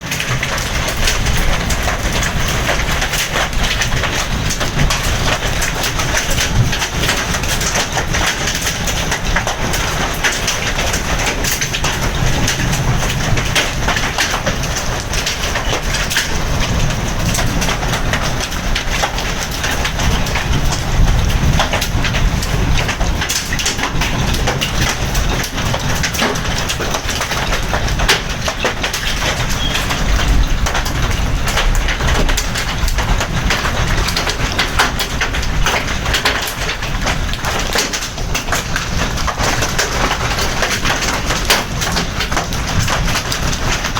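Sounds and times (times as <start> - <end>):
hailstones pelting hard surfaces: 0.0 - 43.9.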